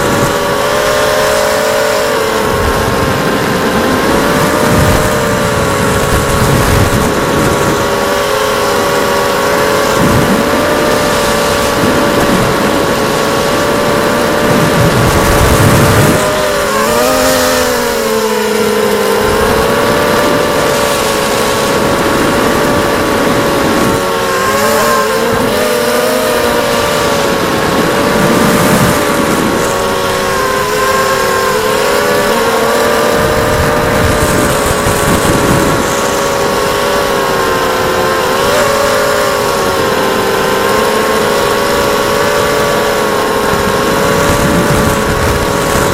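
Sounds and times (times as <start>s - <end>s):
quadcopter motors whining: 0.0s - 45.9s.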